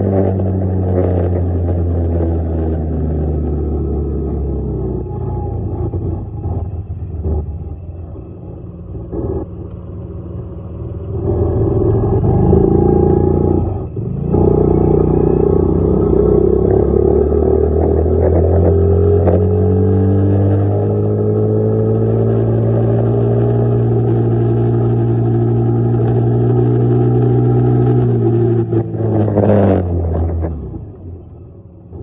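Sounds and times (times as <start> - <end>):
dirt bike engine: 0.0 - 30.5.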